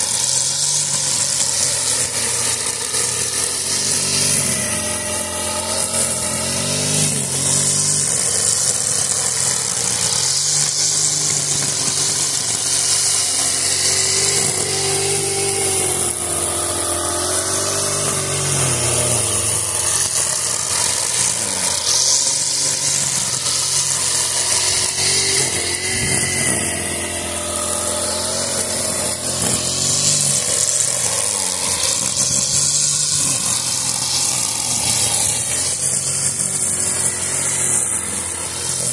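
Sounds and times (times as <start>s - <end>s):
brushcutter engine running: 0.0s - 38.9s
nylon line hissing through grass: 0.0s - 38.9s.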